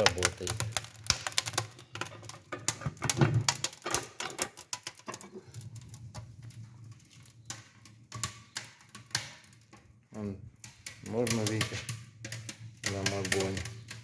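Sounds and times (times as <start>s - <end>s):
wood fire crackling and snapping: 0.0s - 14.0s.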